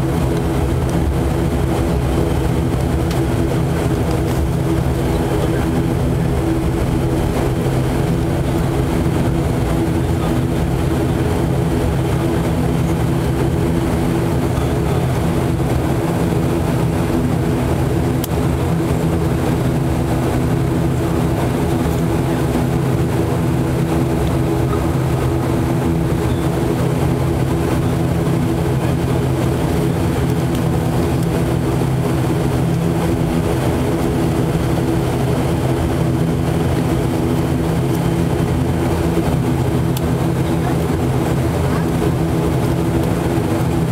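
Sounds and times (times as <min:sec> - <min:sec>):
turboprop engine drone: 0:00.0 - 0:43.9.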